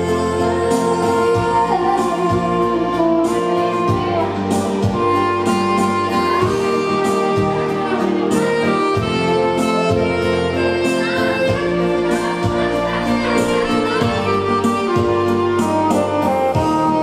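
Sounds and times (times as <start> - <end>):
dance band music: 0.0 - 17.0.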